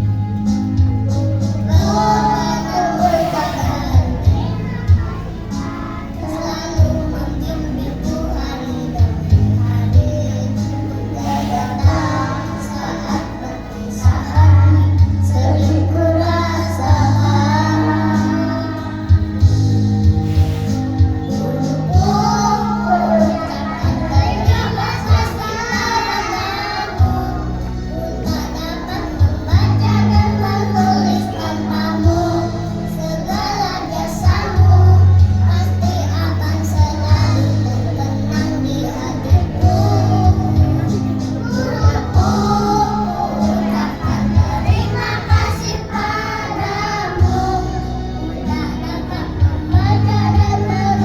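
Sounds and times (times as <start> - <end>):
accompanying music with bass: 0.0 - 51.0
children's choir singing: 0.0 - 51.0.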